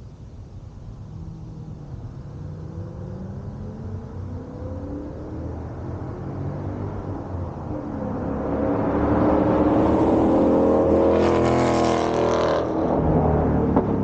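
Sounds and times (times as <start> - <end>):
car engine accelerating: 1.2 - 14.0.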